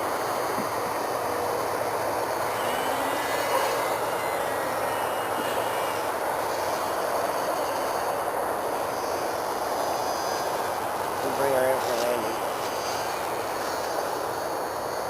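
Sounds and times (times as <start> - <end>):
electric motor and propeller whine: 0.0 - 15.0
steady rushing noise: 0.0 - 15.0.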